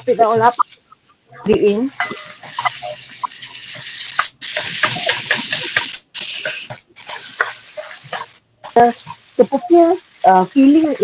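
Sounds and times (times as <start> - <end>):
food sizzling in a wok: 1.5 - 11.0.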